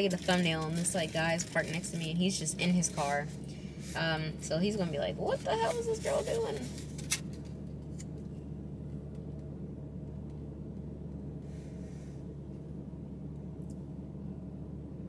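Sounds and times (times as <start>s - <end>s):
low hum inside car cabin: 0.0s - 15.0s.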